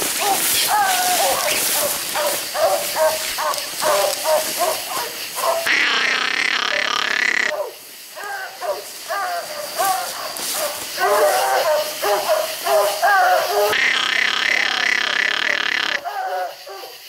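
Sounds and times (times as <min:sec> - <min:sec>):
dogs barking: 0:00.2 - 0:05.9, 0:07.2 - 0:17.0.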